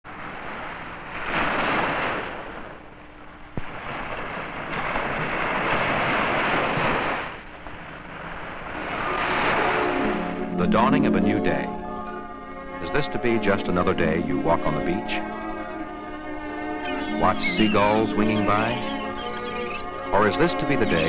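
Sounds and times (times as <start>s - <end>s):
ocean surf breaking on beach: 0.1s - 15.6s, 16.2s - 21.0s.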